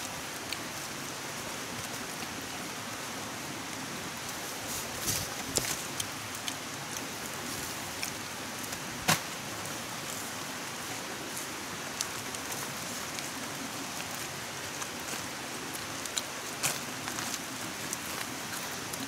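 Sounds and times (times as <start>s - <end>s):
steady rain-like hiss: 0.0s - 19.0s.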